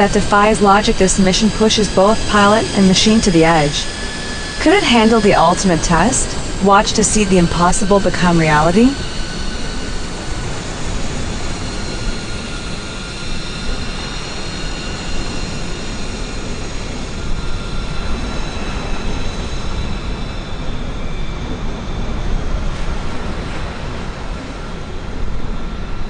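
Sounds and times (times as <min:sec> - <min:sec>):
high engine whine: 0:00.0 - 0:26.0
jet engines roaring: 0:00.0 - 0:26.0.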